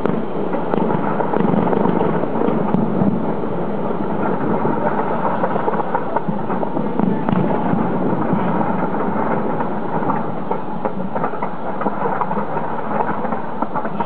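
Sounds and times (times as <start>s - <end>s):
distant fireworks barrage: 0.0s - 14.0s.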